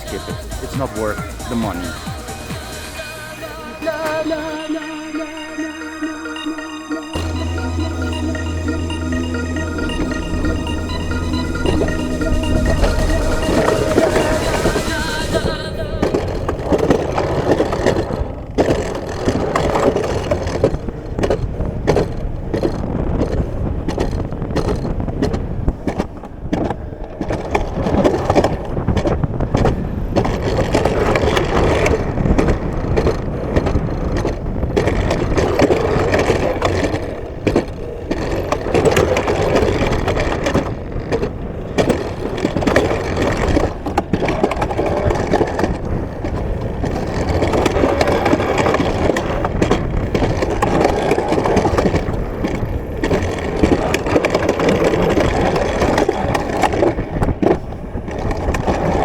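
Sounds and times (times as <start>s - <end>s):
coaster wheels rattling on rail: 0.0s - 59.0s.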